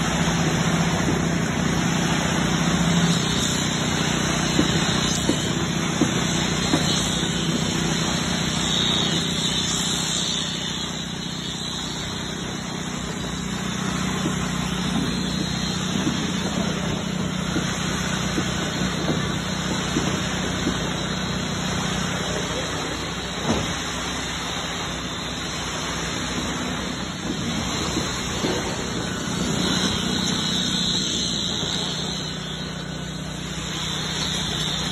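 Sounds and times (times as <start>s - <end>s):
concrete pump and truck engine: 0.0s - 34.9s.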